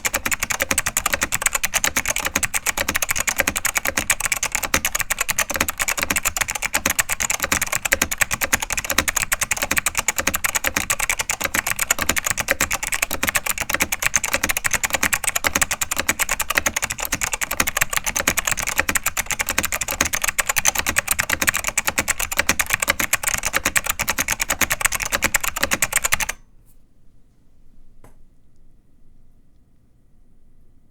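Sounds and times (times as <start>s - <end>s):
rapid mechanical keyboard typing: 0.0s - 26.4s.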